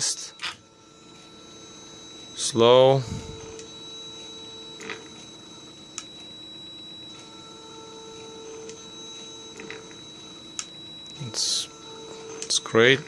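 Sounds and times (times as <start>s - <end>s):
throttle body humming: 0.0s - 13.0s.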